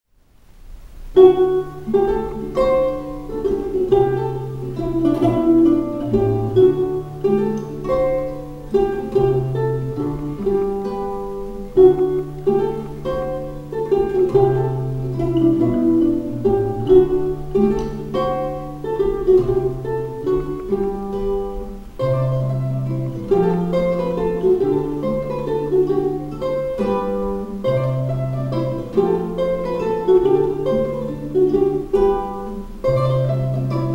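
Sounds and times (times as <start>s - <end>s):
classical guitar playing: 0.5s - 33.9s
ukulele playing: 0.5s - 33.9s.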